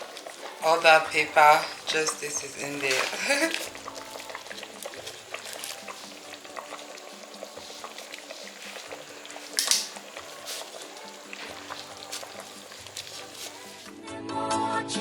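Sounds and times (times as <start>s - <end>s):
soup bubbling in a pot: 0.0s - 13.9s
spoon rasping in a pot: 1.4s - 13.9s.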